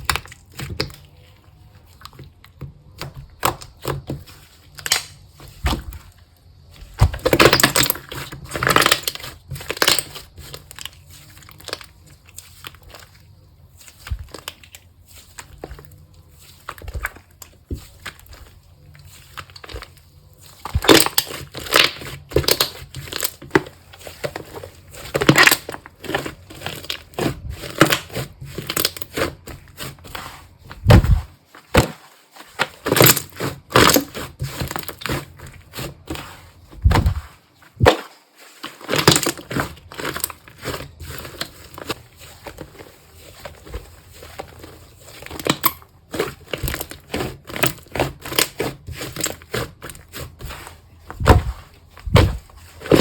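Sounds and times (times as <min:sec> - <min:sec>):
deep slime squishes: 0:00.0 - 0:53.0
slime crackling and squelching: 0:00.0 - 0:53.0.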